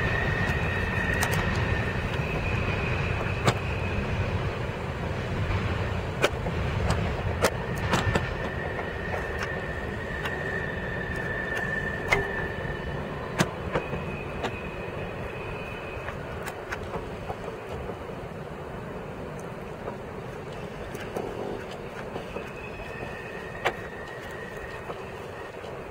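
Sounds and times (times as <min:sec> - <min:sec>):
train cars rumbling on rails: 0:00.0 - 0:25.9.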